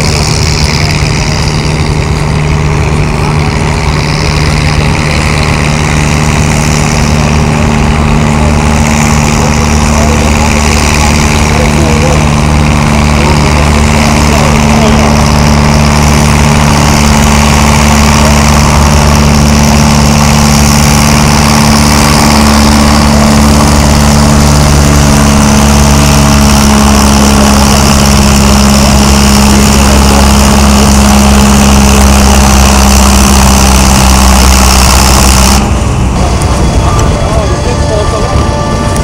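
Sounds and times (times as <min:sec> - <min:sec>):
tractor diesel engine running hard: 0:00.0 - 0:39.0.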